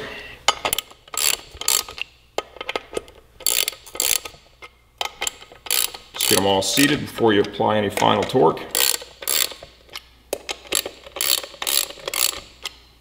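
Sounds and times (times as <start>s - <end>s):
hand ratchet clicking: 0.6s - 7.0s, 8.0s - 12.9s.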